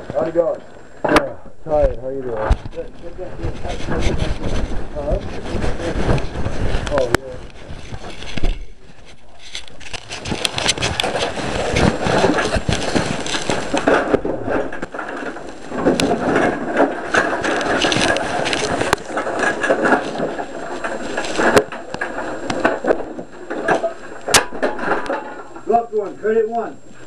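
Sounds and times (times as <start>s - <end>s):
microphone rubbing noise: 0.0s - 25.9s
plastic bag rustling: 2.2s - 27.0s.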